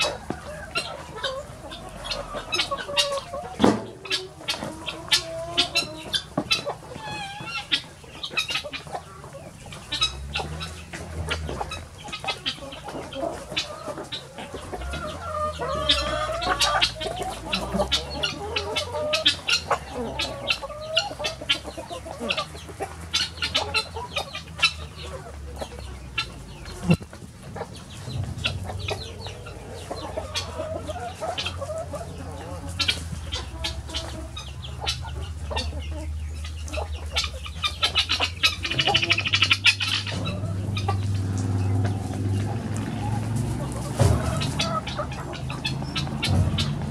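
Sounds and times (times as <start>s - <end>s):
beaks pecking at ground: 0.0s - 46.9s
hens clucking: 0.0s - 46.9s.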